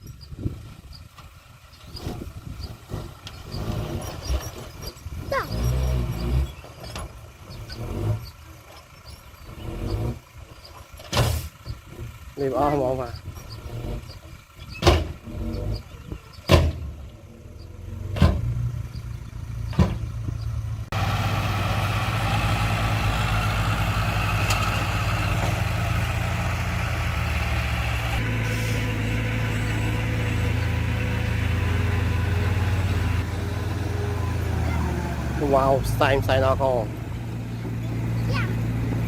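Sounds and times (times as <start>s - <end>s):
heavy diesel engine running: 0.1s - 39.0s.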